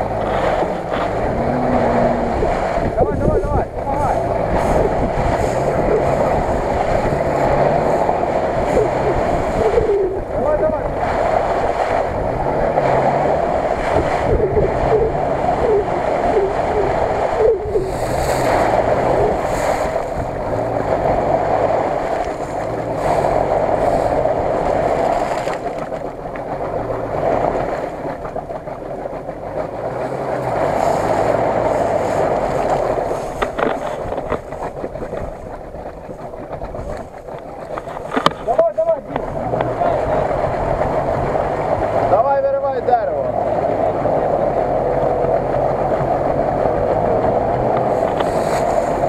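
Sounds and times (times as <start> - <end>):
car engine revving hard: 0.0 - 49.0
tyres churning through mud: 0.0 - 49.0.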